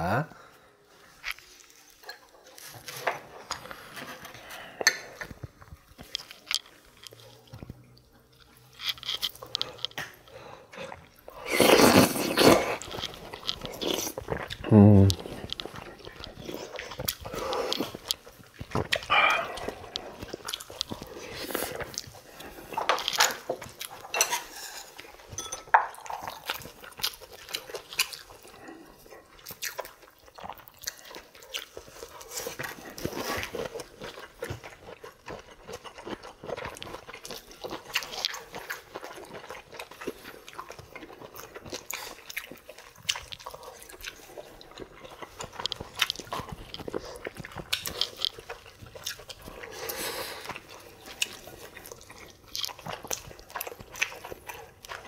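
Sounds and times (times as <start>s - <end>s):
chewing and biting food: 1.1s - 55.0s.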